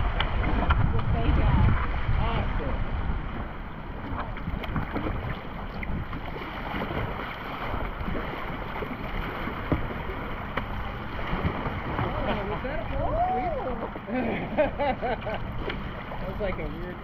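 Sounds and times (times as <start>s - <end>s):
wind buffeting microphone: 0.0s - 14.1s
water splashing around kayak: 0.0s - 17.0s.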